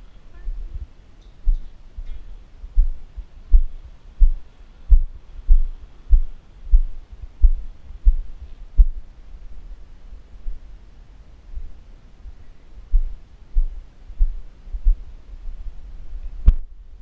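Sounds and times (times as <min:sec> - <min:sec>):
footsteps dull low thuds: 0:00.0 - 0:09.6, 0:11.5 - 0:16.7.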